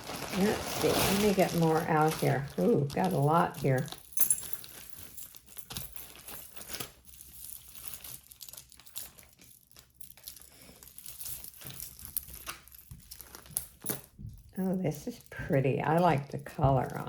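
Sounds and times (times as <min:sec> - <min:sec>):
packaging crinkling and rustling: 0:00.0 - 0:14.5.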